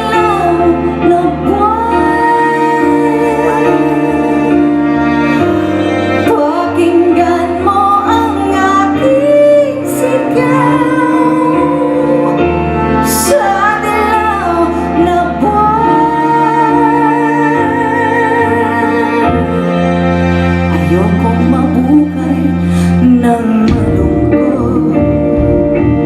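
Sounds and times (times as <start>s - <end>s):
bass and keyboard chords: 0.0s - 26.0s
woman singing a ballad: 0.0s - 26.0s.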